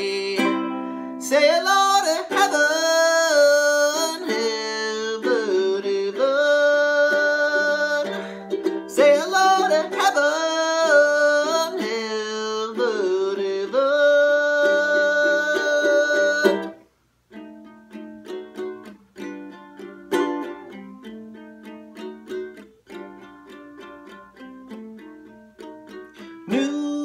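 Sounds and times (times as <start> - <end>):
ukulele plucked: 0.0 - 27.0.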